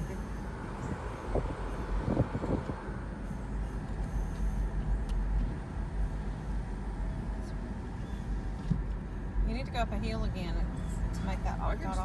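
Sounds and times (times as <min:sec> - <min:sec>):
car cabin road rumble: 0:00.0 - 0:12.0
car vibration noise: 0:00.0 - 0:12.0.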